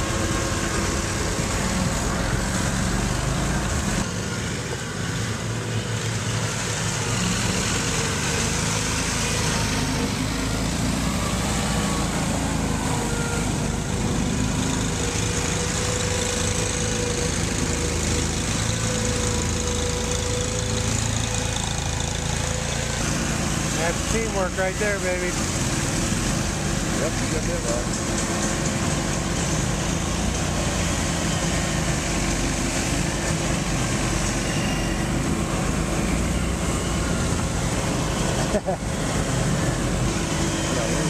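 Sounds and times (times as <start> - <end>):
small engine running: 0.0 - 41.0.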